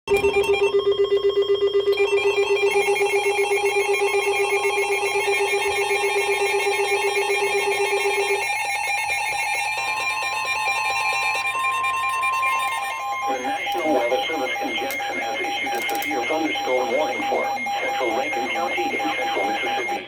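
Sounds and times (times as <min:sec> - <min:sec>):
pulsing alarm beeps: 0:00.1 - 0:20.0
steady single-pitch alarm tone: 0:00.1 - 0:20.0.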